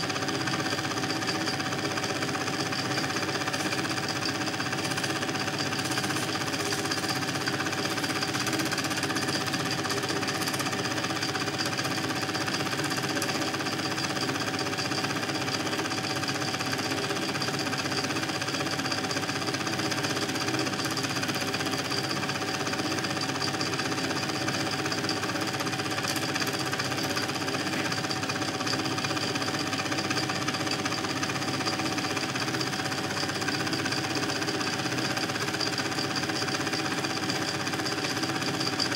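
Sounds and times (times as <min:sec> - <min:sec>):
film projector clatter: 0:00.0 - 0:38.9.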